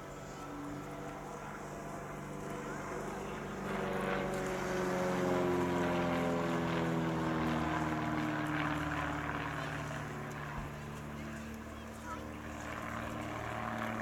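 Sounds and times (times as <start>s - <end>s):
propeller aircraft droning past: 0.0s - 14.0s.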